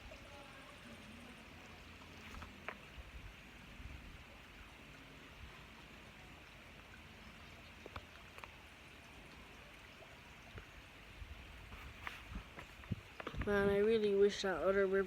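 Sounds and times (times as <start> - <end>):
faint trickle of stream water: 0.0 - 15.0.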